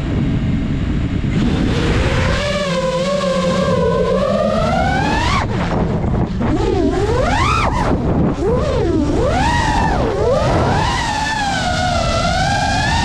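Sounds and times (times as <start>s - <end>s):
drone motors whining: 0.0s - 13.0s
low rumbling noise: 0.0s - 13.0s.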